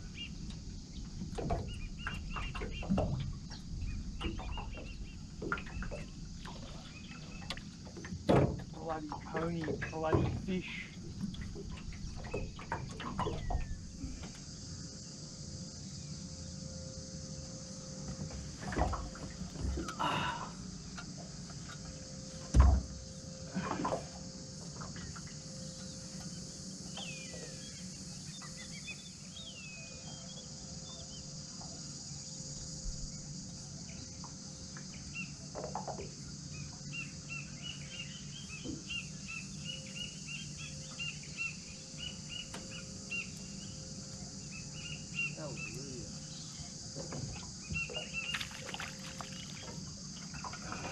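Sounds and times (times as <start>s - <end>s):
steady high-pitched hiss: 0.0s - 50.9s.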